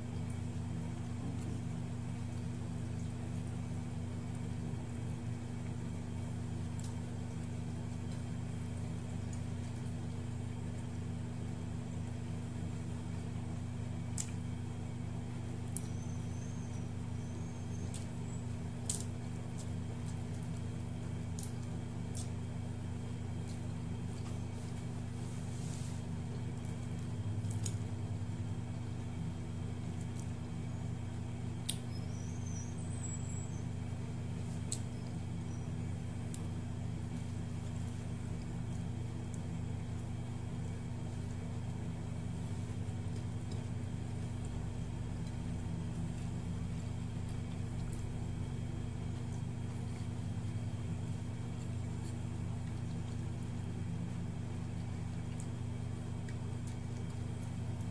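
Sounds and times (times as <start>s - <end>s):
low machine hum: 0.0s - 57.9s.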